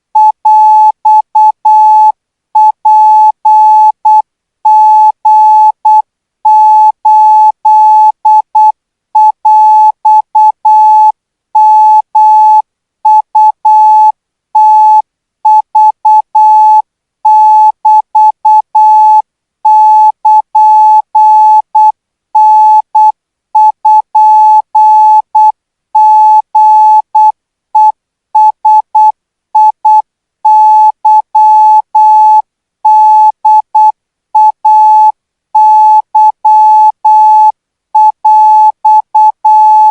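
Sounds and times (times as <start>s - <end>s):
morse code tone: 0.2s - 39.9s.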